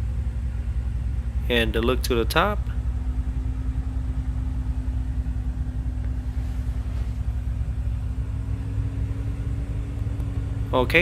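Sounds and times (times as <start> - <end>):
constant low hum: 0.0 - 11.0
steady low rumble: 0.0 - 11.0.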